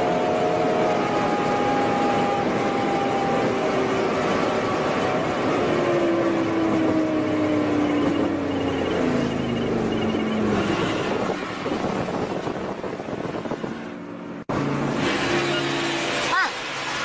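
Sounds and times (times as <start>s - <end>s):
car engine from inside cabin: 0.0s - 17.0s
road and wind noise: 0.0s - 17.0s.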